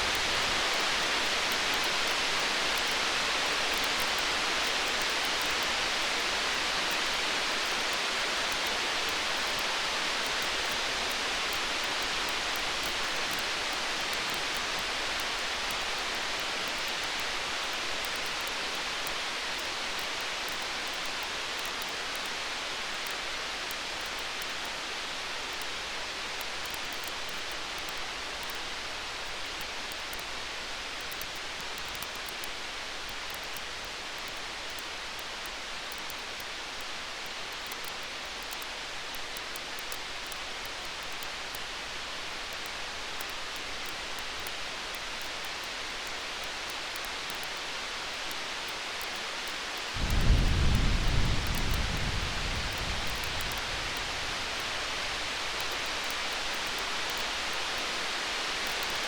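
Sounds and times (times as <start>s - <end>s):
campfire hissing and crackling: 0.0s - 59.0s.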